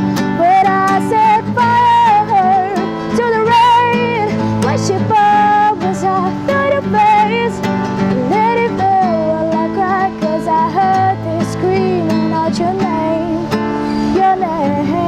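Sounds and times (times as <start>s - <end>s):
guitar accompaniment: 0.0s - 15.0s.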